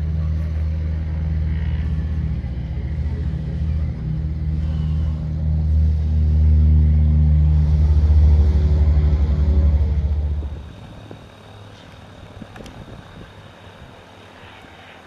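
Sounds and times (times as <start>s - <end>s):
helicopter rotor beating: 0.0s - 15.0s
helicopter turbine: 0.0s - 15.0s.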